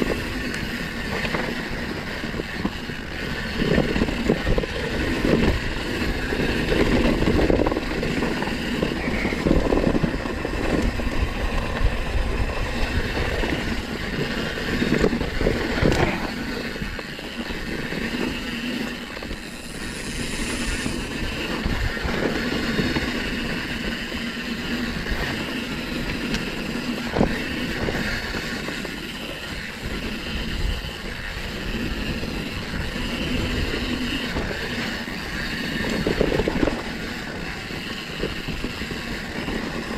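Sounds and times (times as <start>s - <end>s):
bike tyres on dirt trail: 0.0s - 39.9s.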